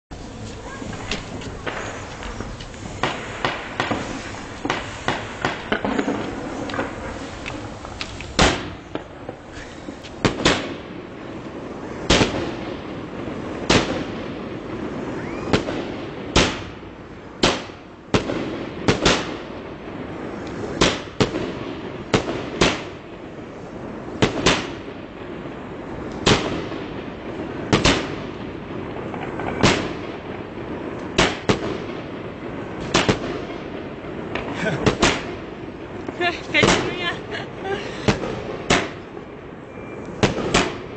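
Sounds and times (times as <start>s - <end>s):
fireworks bangs: 0.1s - 40.9s
steady background noise: 0.1s - 40.9s.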